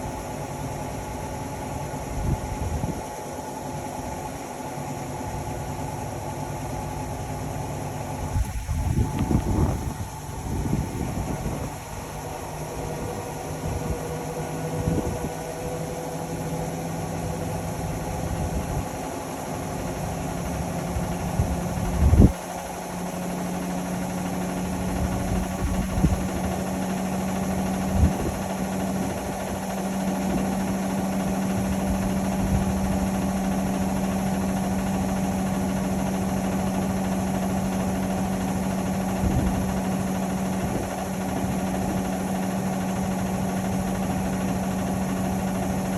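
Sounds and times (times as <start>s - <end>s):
washing machine spinning: 0.0s - 45.9s.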